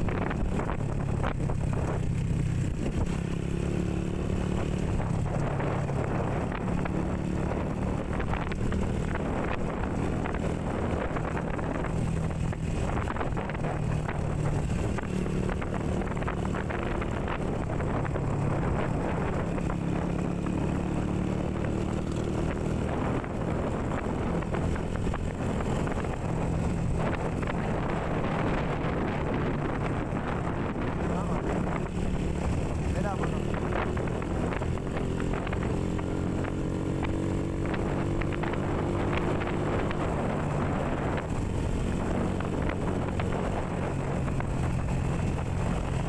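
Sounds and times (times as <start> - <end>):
motorcycle engine running: 0.0 - 46.0
wind buffeting microphone: 0.0 - 46.0.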